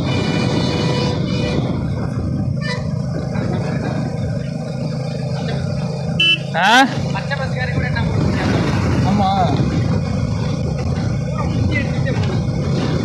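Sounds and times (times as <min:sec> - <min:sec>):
motorcycle engine drone: 0:00.0 - 0:13.0
road and wind noise: 0:00.0 - 0:13.0.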